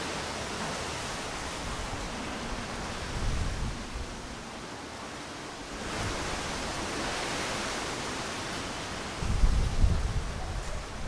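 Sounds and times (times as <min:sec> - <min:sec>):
strong wind through leafy trees: 0:00.0 - 0:11.0.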